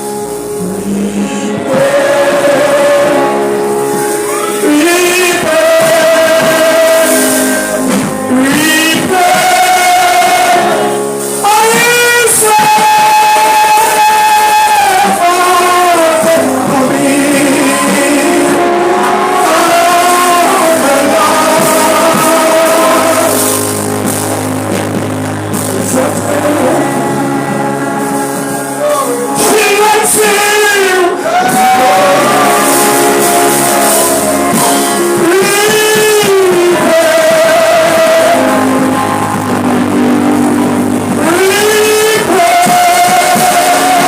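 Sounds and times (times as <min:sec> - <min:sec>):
band with guitar and bass: 0:00.0 - 0:44.0
person singing with vibrato: 0:00.0 - 0:44.0.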